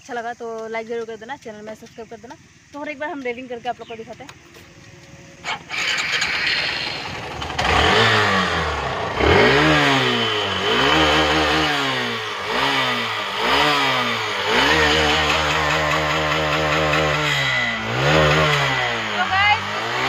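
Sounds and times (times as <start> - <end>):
motorcycle engine revving: 1.8 - 20.0.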